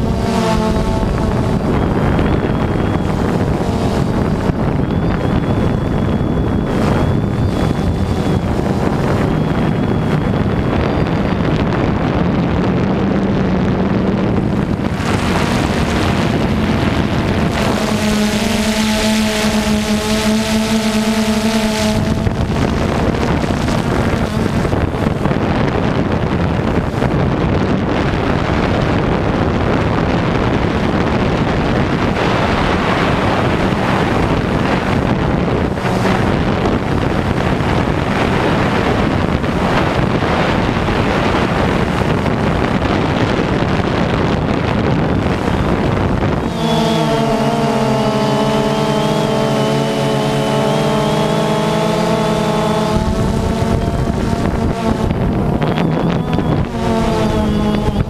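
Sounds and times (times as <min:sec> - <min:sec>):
high thin whine rising: 0:00.0 - 0:12.2, 0:13.5 - 0:58.0
drone motors humming: 0:00.0 - 0:58.0
wind buffeting microphone: 0:00.0 - 0:58.0.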